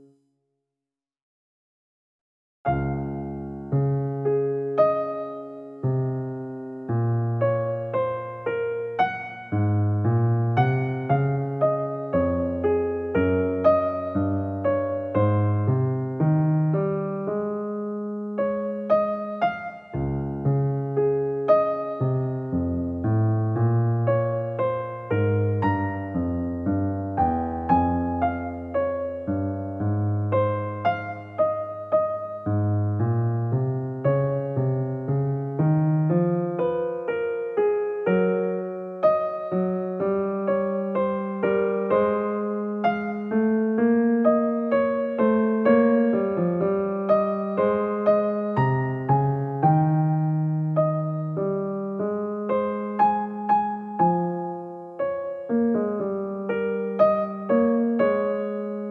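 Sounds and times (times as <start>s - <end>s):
gentle piano melody: 2.7s - 58.9s.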